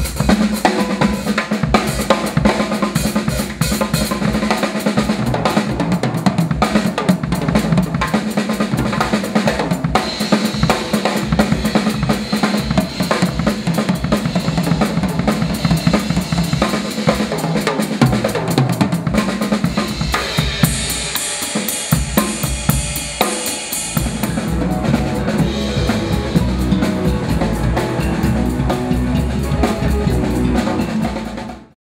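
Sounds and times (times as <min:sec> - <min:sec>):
drum kit hits: 0:00.0 - 0:31.8
live band playing: 0:00.0 - 0:31.8.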